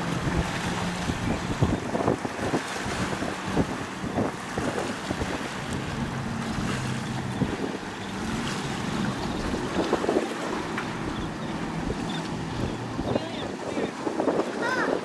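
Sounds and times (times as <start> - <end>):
motorboat engine humming: 0.0 - 15.0
waves washing: 0.0 - 15.0
wind buffeting microphone: 0.0 - 15.0.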